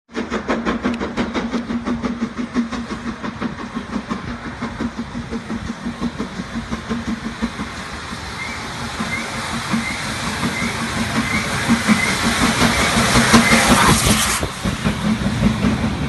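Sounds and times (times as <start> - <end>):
train wheels clicking on rails: 0.1 - 16.0.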